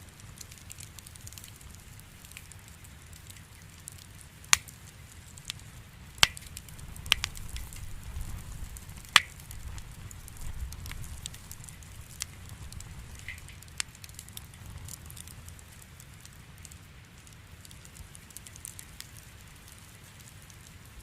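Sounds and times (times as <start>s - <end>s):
campfire flame rumble: 0.0s - 21.0s
logs popping and crackling: 0.0s - 21.0s.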